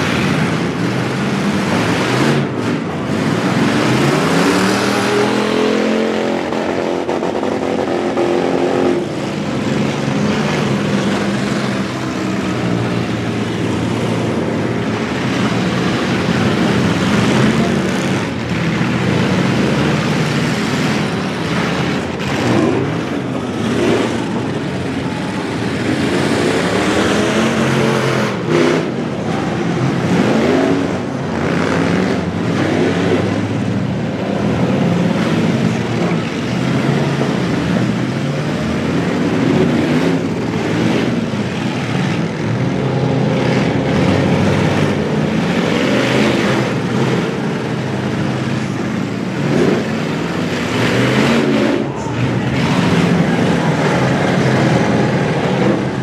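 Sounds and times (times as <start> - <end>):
truck engines revving hard: 0.0 - 56.0.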